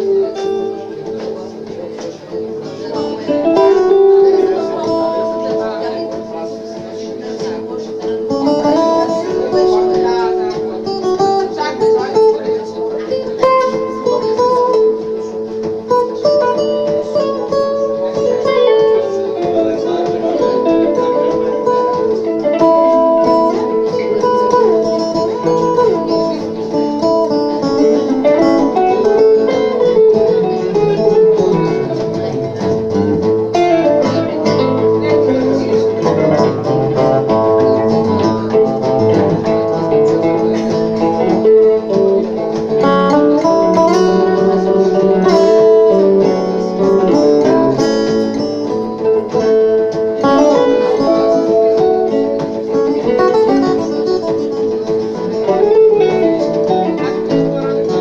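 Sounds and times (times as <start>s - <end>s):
acoustic guitars playing blues: 0.0s - 58.0s.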